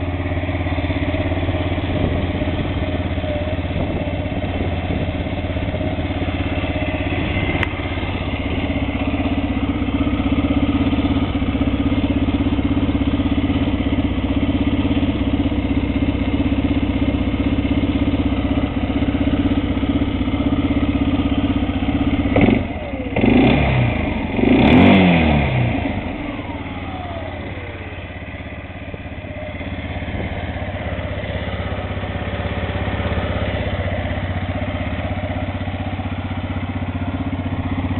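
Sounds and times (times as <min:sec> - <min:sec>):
engine idling: 0:00.0 - 0:37.9
engine throttle blips: 0:00.0 - 0:37.9.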